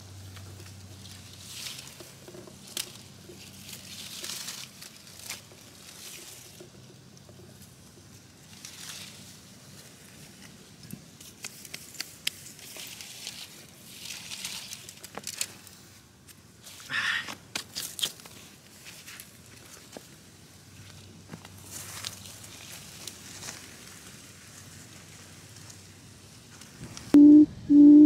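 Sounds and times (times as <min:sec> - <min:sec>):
wire trap rustling in leaves: 0:00.2 - 0:16.9, 0:17.6 - 0:26.8.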